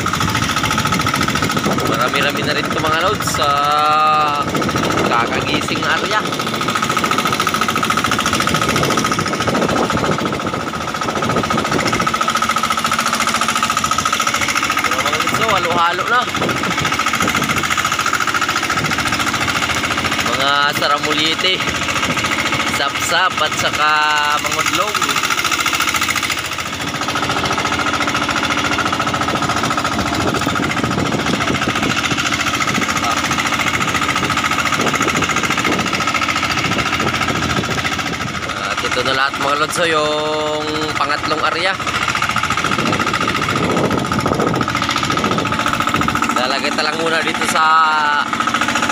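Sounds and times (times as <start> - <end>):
small engine chugging: 0.0 - 48.9.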